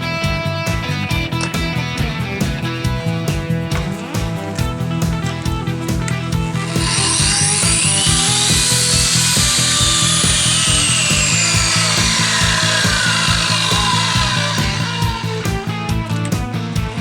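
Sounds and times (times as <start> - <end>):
background music with beat: 0.0 - 17.0
angle grinder cutting concrete: 1.3 - 17.0.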